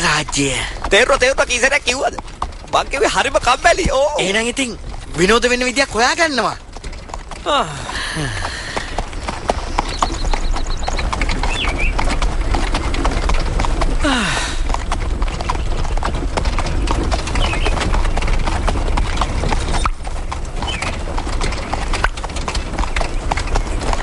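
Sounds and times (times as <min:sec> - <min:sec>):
horses' hooves clip-clop: 0:00.0 - 0:24.0.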